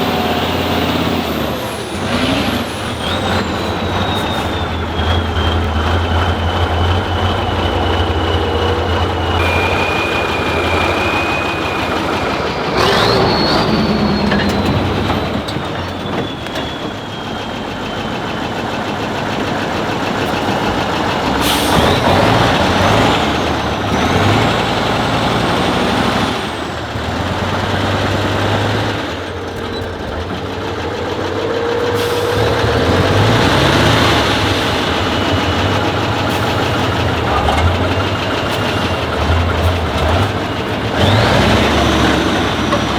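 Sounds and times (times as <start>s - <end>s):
diesel truck engine working hard: 0.0s - 42.9s.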